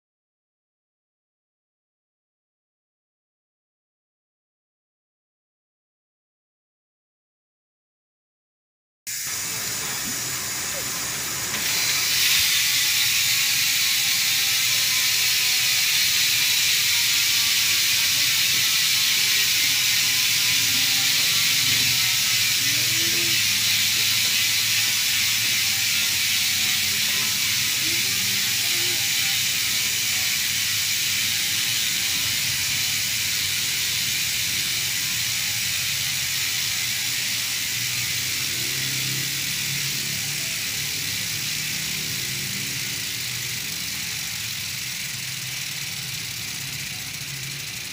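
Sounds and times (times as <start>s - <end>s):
bicycle freewheel ratchet clicking: 9.1s - 47.9s.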